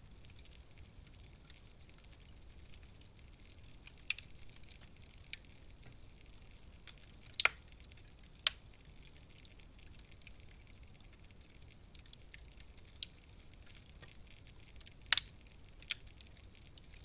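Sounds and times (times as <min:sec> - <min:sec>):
wood fire hissing and crackling: 0:00.0 - 0:17.0.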